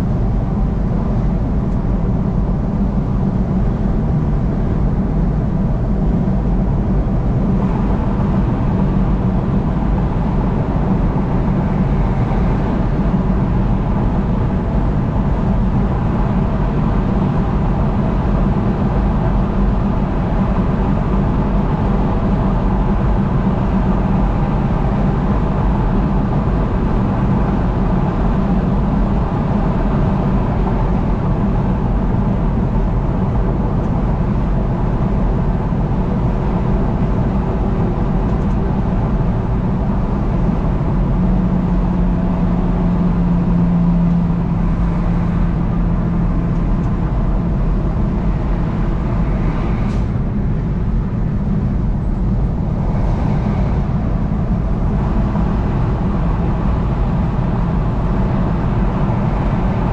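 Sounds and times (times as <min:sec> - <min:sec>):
vehicle engine and tyre drone: 0:00.0 - 0:59.9.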